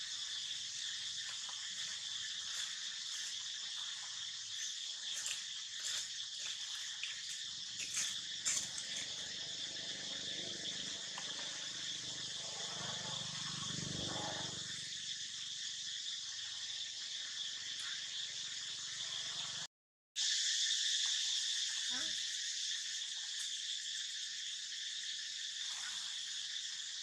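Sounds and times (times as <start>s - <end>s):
high insect chorus: 0.0s - 27.0s.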